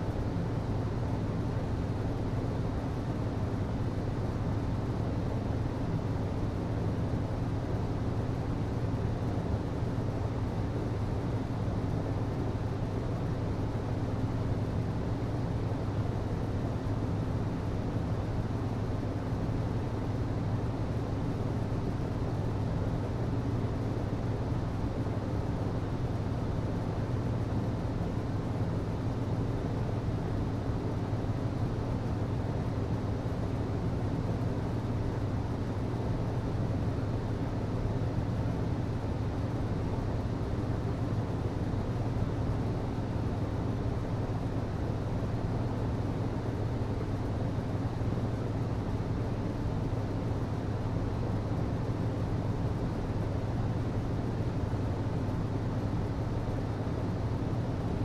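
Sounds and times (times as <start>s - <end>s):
hvac low hum: 0.0s - 58.0s.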